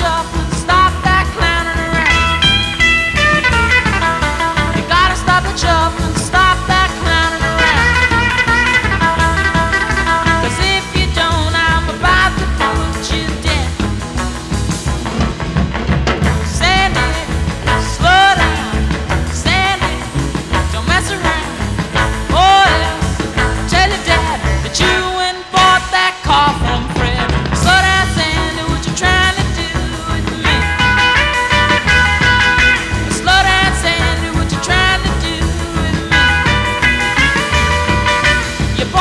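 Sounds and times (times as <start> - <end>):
rock song with singing: 0.0 - 39.0.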